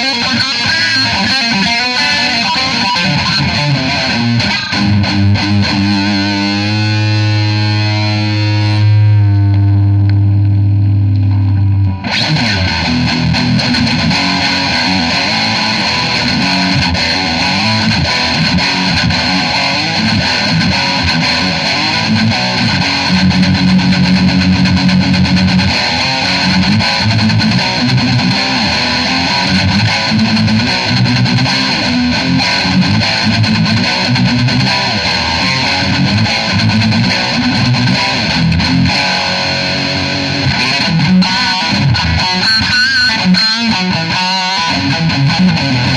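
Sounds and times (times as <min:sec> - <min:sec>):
distorted electric guitar riff: 0:00.0 - 0:45.9.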